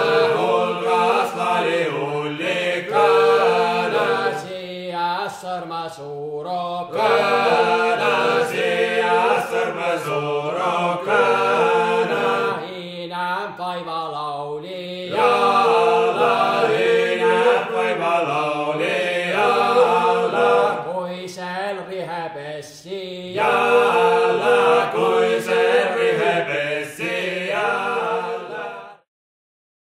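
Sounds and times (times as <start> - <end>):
folk song chanted: 0.0 - 29.0.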